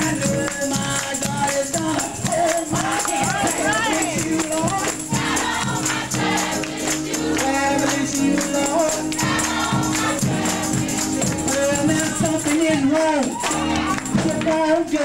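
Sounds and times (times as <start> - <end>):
gospel choir singing over a beat: 0.0 - 15.0
tambourine shaking: 0.0 - 15.0.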